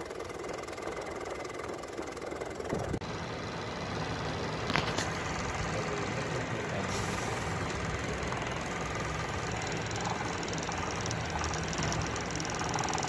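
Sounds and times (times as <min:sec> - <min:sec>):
blower motor running: 0:00.0 - 0:13.0.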